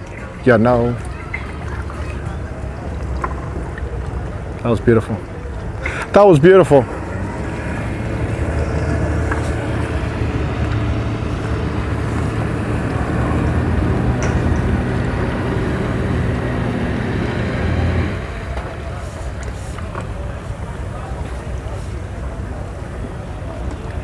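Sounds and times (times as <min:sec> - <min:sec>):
outboard motors humming: 0:00.0 - 0:24.0.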